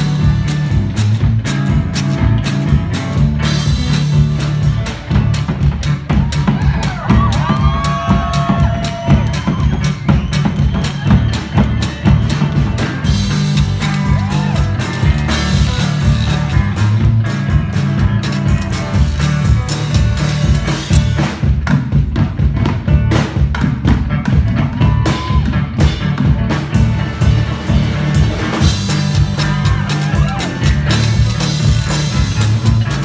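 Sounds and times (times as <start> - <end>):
drum kit beating: 0.0 - 33.0
guitar: 0.0 - 33.0.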